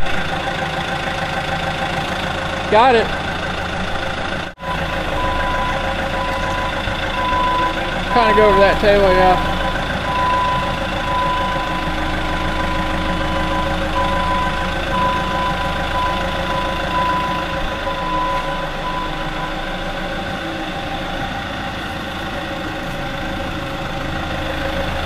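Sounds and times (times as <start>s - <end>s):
engine idling: 0.0s - 25.0s
high back-up alarm beeping: 0.3s - 24.6s.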